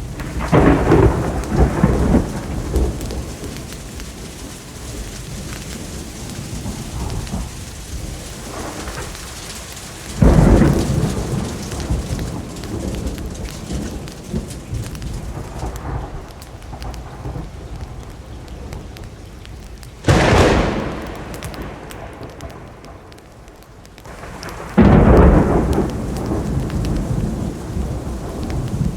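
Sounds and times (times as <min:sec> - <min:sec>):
steady rain: 0:00.0 - 0:28.9
thunderclaps: 0:00.0 - 0:28.9.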